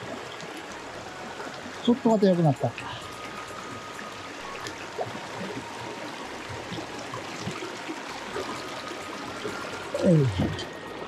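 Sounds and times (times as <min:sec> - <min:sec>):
stream babbling over stones: 0:00.0 - 0:11.0.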